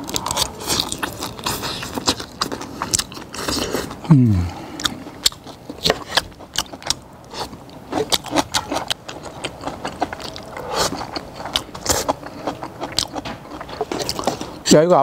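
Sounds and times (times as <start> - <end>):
chewing: 0.0 - 14.7.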